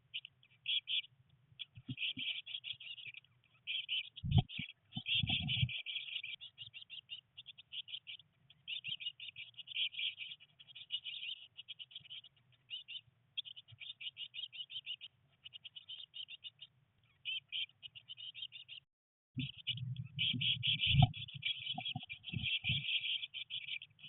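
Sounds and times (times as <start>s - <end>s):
nestlings chirping: 0.0s - 24.0s.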